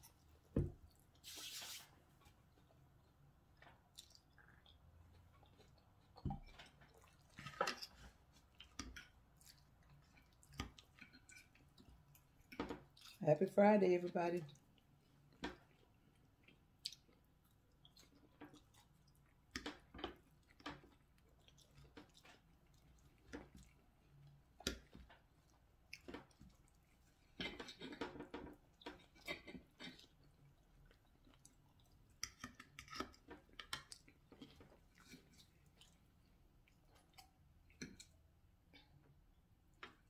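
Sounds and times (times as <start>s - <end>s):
faint chewing: 2.2s - 13.2s, 14.4s - 40.0s.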